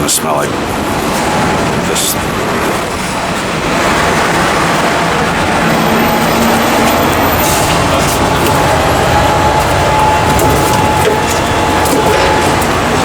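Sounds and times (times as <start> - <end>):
subway train running: 0.0 - 13.0.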